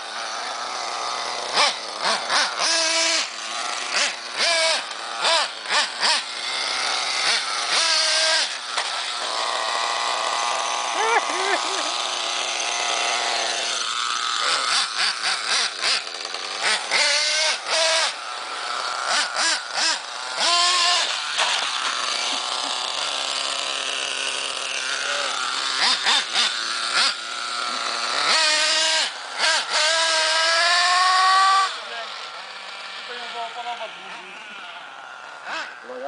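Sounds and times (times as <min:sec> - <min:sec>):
small engine revving: 0:00.0 - 0:36.0.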